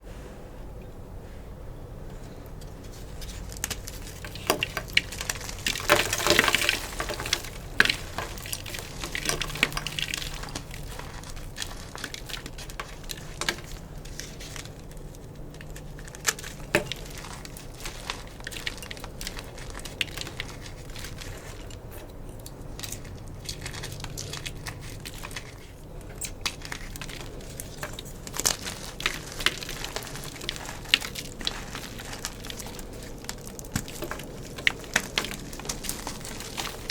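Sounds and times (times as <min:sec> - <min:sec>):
chalk crunching: 0:02.1 - 0:36.9.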